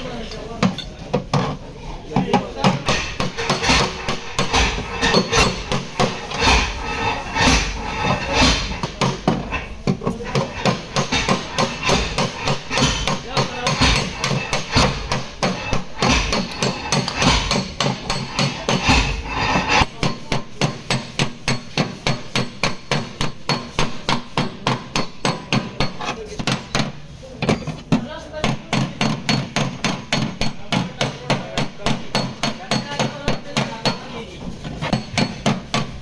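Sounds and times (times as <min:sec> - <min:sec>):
hammer striking metal panel: 0:02.2 - 0:34.2, 0:34.8 - 0:36.0.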